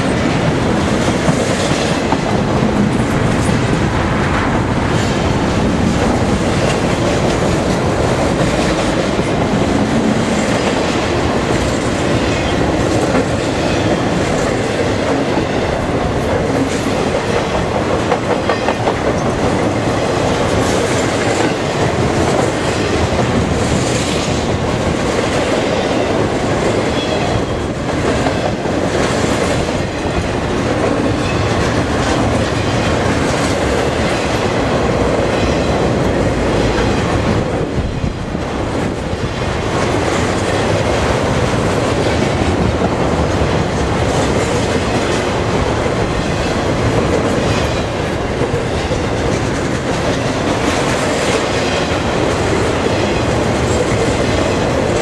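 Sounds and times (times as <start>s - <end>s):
steel wheels rumbling on rail: 0.0s - 55.0s
wheels clacking over rail joints: 0.0s - 55.0s.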